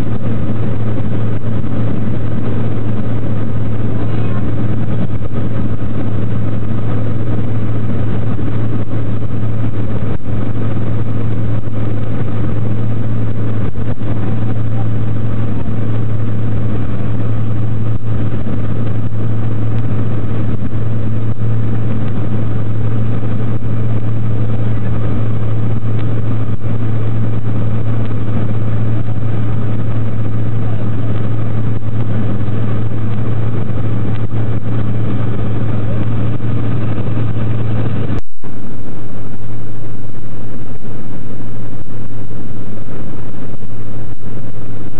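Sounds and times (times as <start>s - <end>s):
aircraft engine drone: 0.0s - 44.9s.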